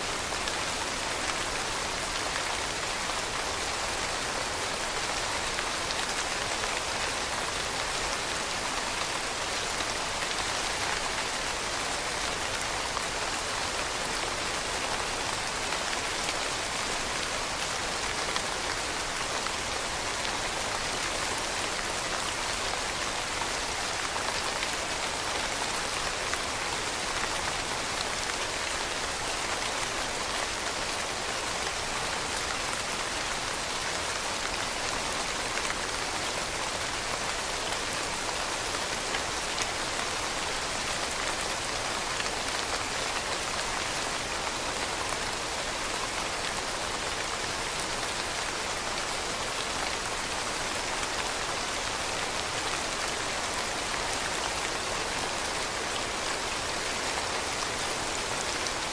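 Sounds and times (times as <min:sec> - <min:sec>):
rain pattering on leaves: 0:00.0 - 0:58.9.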